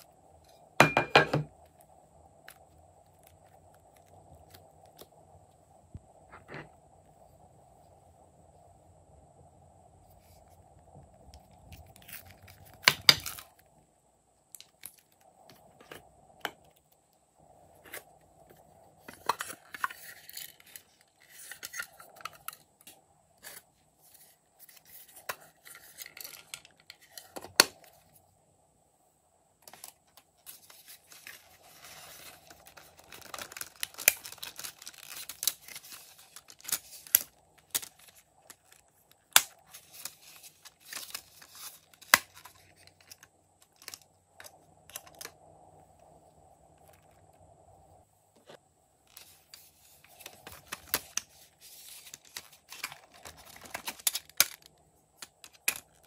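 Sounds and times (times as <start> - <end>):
faint high whine: 0.0 - 56.0.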